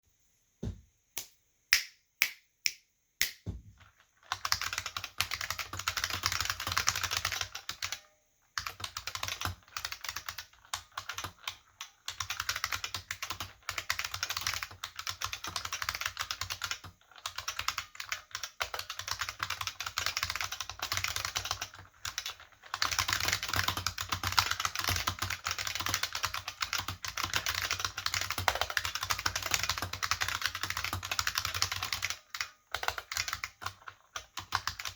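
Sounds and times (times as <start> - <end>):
keyboard typing: 4.3 - 34.9.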